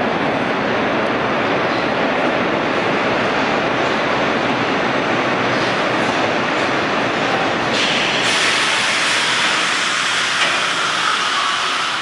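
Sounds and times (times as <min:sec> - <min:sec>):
subway wheels rumbling on rail: 0:00.0 - 0:12.0.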